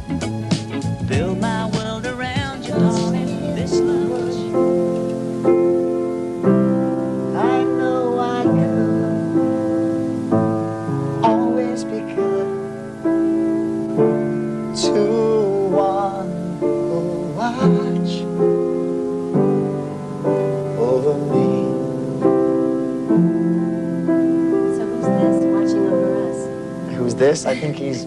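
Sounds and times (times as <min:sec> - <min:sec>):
piano playing slow chords: 0:00.0 - 0:28.0.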